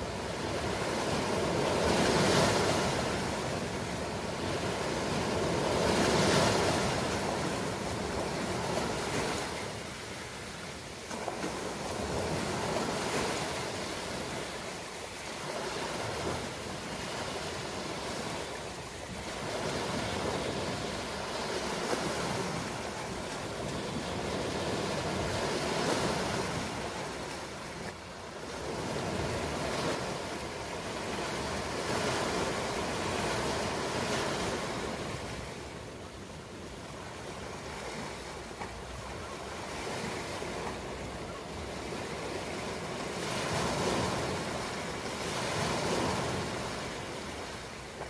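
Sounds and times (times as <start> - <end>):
ocean waves breaking on shore: 0.0 - 48.0.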